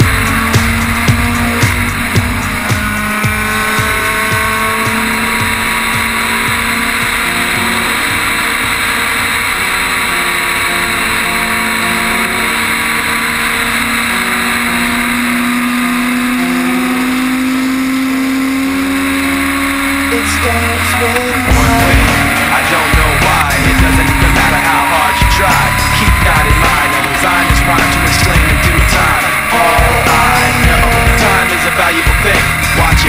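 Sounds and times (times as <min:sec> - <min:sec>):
race car engine running: 0:00.0 - 0:33.0
road and wind noise: 0:00.0 - 0:33.0.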